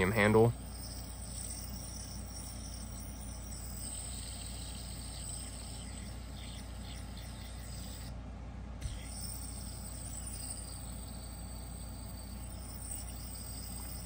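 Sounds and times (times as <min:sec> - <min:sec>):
fidget spinner whirring: 0:00.0 - 0:08.2, 0:08.8 - 0:14.0
low room hum: 0:00.0 - 0:14.0.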